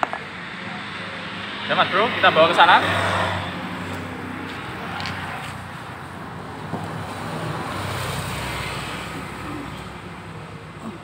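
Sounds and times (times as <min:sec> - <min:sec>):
motor vehicle engine humming: 0:00.0 - 0:11.0
road traffic noise: 0:00.0 - 0:11.0.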